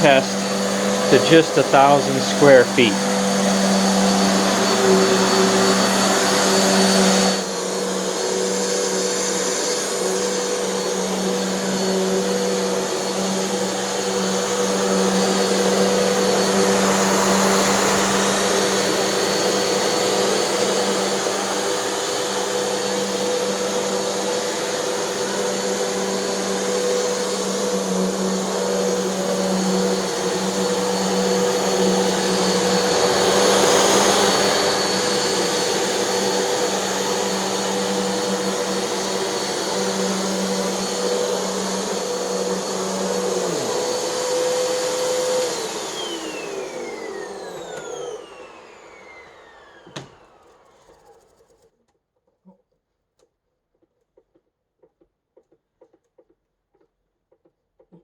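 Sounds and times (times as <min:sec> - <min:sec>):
vacuum cleaner motor drone: 0:00.3 - 0:01.2, 0:03.0 - 0:51.3.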